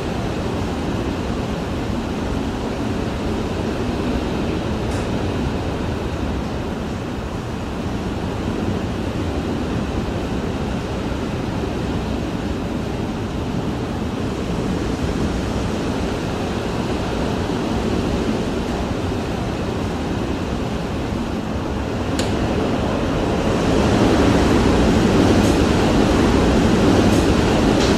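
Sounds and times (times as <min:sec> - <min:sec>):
hurricane wind rushing: 0:00.0 - 0:27.9.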